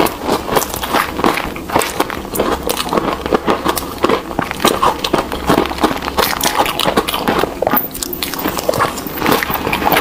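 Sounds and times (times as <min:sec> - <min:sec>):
crunching and chewing ice: 0:00.0 - 0:10.0.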